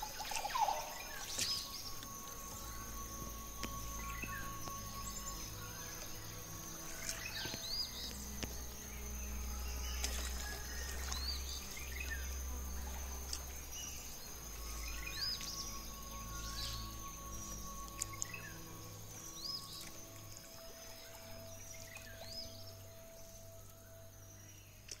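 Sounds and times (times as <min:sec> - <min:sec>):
high-pitched insect trill: 0:00.0 - 0:25.0.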